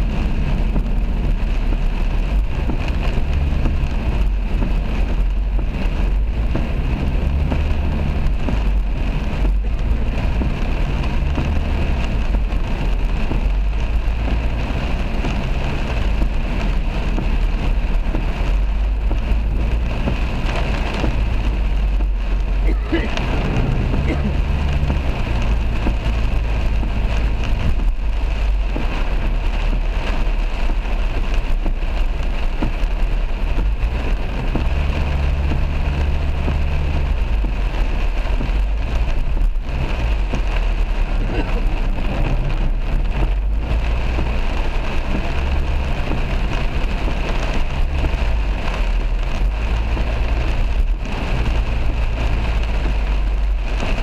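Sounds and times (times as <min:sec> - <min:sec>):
heavy rain on car windscreen: 0:00.0 - 0:54.0
low rumble: 0:00.0 - 0:54.0.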